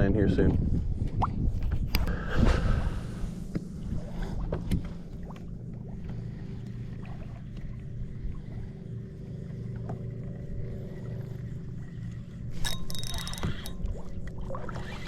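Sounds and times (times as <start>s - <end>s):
water and air rumble: 0.0s - 15.0s.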